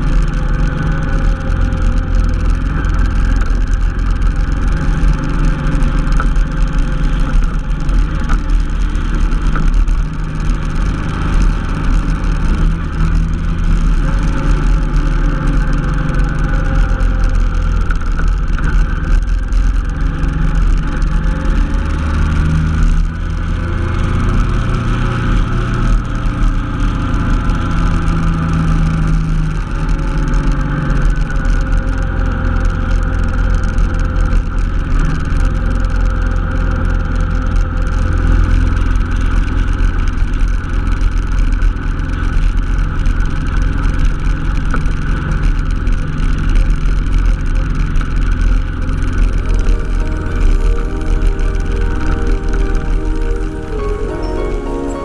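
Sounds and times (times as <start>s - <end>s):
motorcycle engine running: 0.0s - 52.2s.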